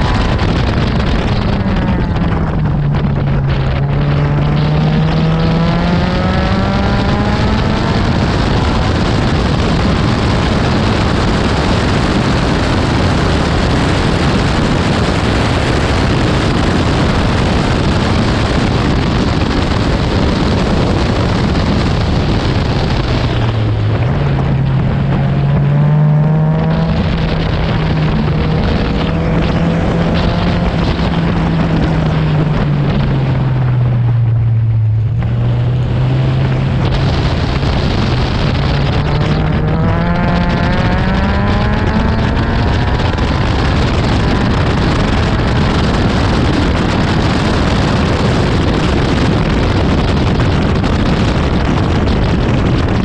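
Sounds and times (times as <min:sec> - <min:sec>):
car engine running hard: 0:00.0 - 0:53.0
rush of wind: 0:00.0 - 0:53.0.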